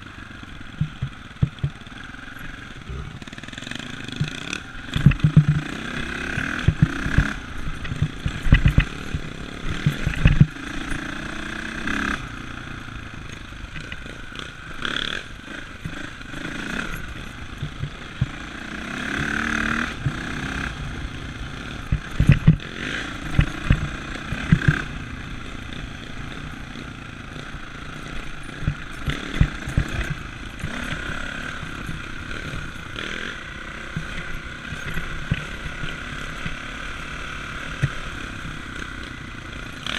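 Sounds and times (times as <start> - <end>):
dirt bike engine revving: 0.0 - 39.9
bike thumping and rattling over bumps: 0.6 - 39.9.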